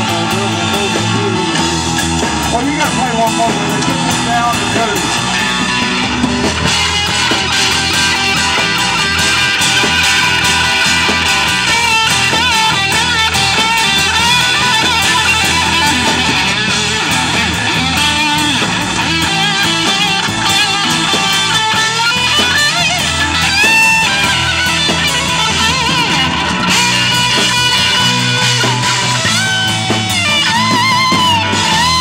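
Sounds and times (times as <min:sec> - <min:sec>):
electric guitar bent notes: 0:00.0 - 0:32.0
live blues band playing: 0:00.0 - 0:32.0.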